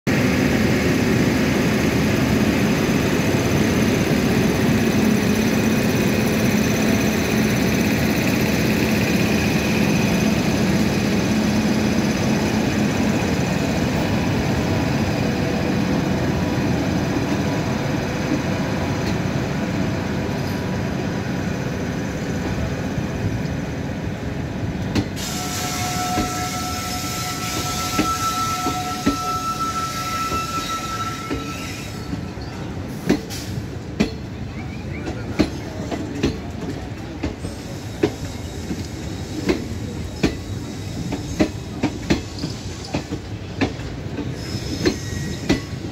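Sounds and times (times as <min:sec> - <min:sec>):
train wheels rumbling on rail: 0:00.1 - 0:45.9.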